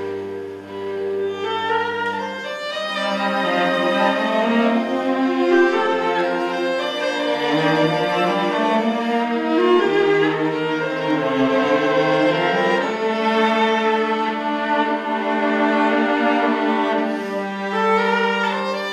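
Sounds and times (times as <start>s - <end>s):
violin and cello held notes: 0.0s - 18.9s.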